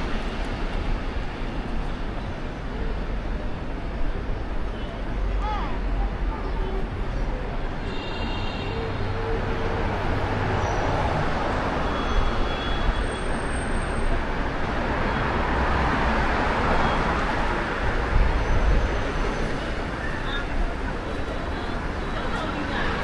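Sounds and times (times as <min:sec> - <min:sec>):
city road traffic: 0:00.0 - 0:23.0.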